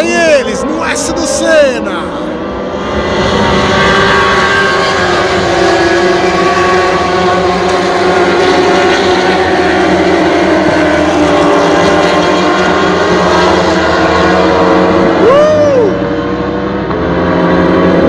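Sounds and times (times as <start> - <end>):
racing motorcycles at speed: 0.0 - 18.0.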